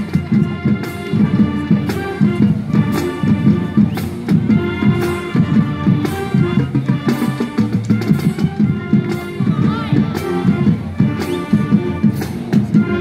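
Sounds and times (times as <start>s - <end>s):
music with drum hits: 0.0s - 13.0s.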